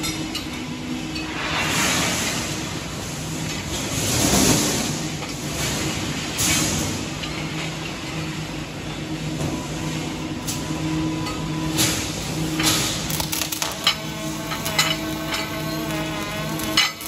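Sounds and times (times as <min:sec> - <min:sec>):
factory machinery hum: 0:00.0 - 0:17.0.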